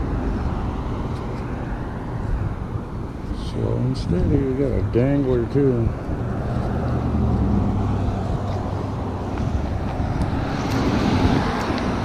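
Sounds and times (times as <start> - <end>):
engine drone with low hum: 0.0 - 12.0.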